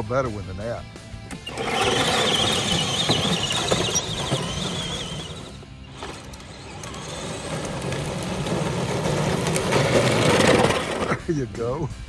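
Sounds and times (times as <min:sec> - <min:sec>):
electric motor whine: 0:01.3 - 0:11.0
gear and wheel noise: 0:01.3 - 0:11.3.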